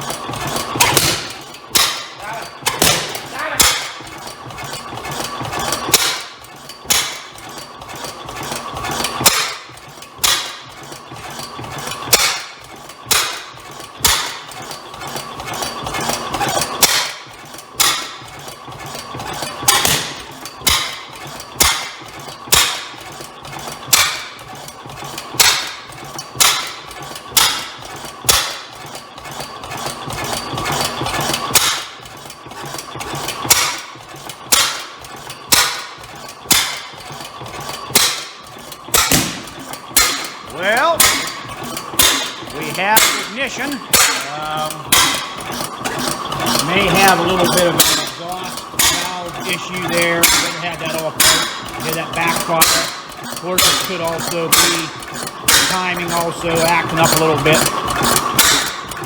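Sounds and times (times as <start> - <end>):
single-cylinder engine banging: 0.0 - 59.0.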